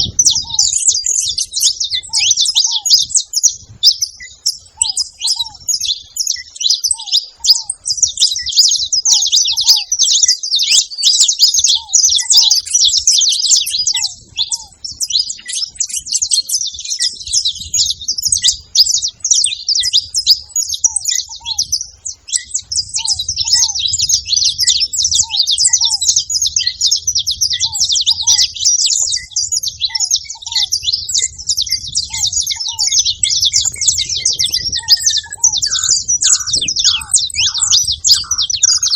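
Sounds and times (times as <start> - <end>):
finches chirping: 0.0 - 38.9.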